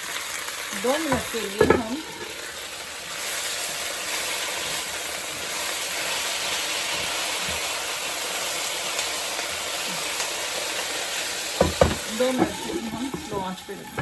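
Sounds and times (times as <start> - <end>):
stir fry sizzling in pan: 0.0 - 14.0.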